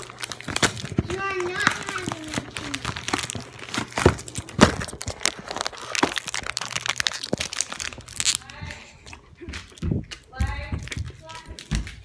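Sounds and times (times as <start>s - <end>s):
plastic candy packet rustling: 0.0s - 10.2s.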